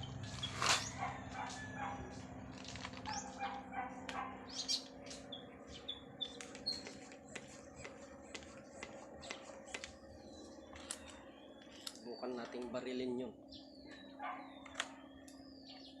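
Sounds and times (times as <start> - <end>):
low hum: 0.0 - 16.0
small birds chirping: 0.0 - 16.0.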